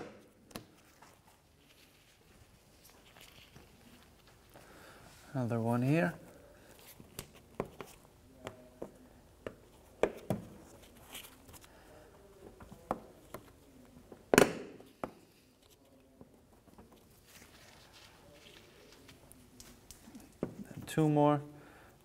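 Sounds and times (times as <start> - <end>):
faint handling noise: 0.4 - 21.2.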